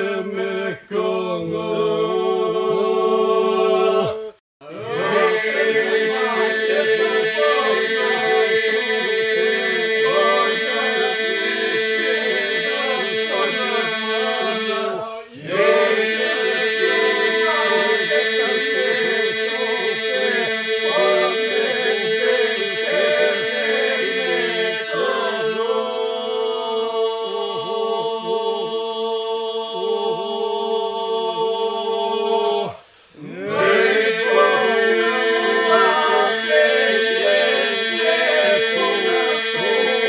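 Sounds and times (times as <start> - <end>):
men's group singing polyphony: 0.0 - 40.0.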